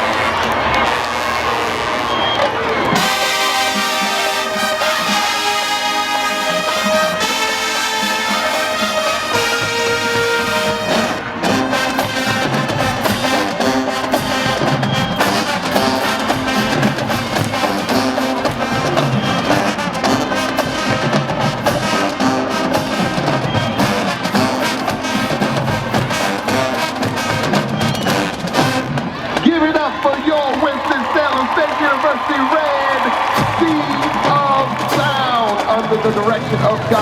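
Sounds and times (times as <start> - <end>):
marching band brass: 0.0 - 37.0
drum hits: 2.9 - 31.4, 33.2 - 36.2.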